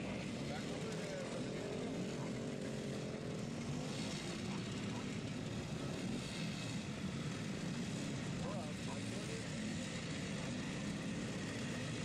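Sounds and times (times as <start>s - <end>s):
moped and motorcycle engines: 0.0s - 12.0s.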